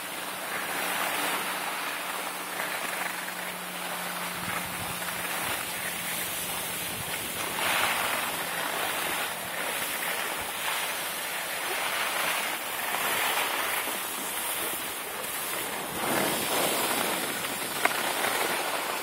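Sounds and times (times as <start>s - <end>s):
skis sliding over snow: 0.0s - 19.0s.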